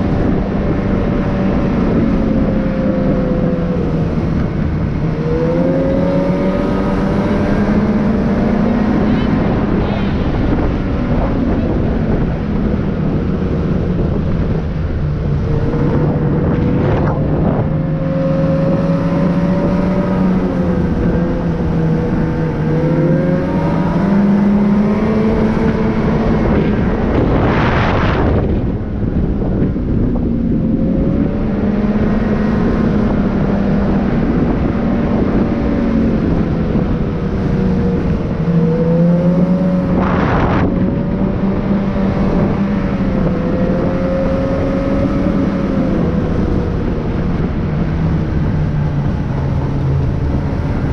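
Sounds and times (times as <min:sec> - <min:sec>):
vehicle engine droning: 0:00.0 - 0:50.9.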